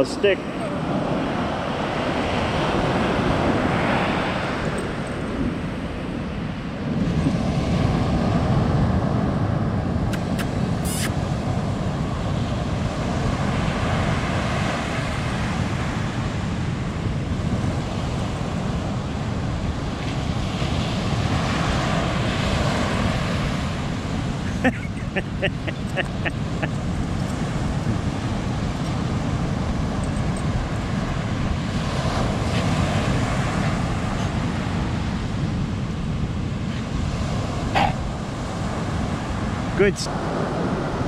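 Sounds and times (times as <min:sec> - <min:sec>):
ocean surf breaking: 0:00.0 - 0:41.0
wind buffeting the microphone: 0:00.0 - 0:41.0.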